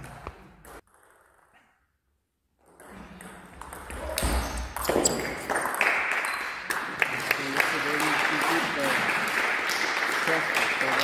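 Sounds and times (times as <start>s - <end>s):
murmur of sports hall: 0.0s - 11.0s.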